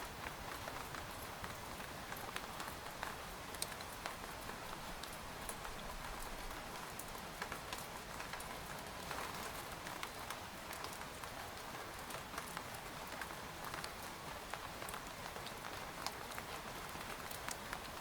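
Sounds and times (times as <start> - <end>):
rain on a tent: 0.0 - 18.0.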